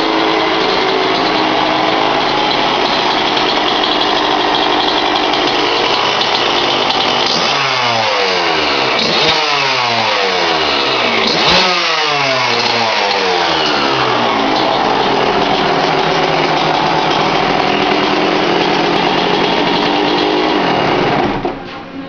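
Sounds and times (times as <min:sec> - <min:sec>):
dirt bike engine revving: 0:00.0 - 0:21.5.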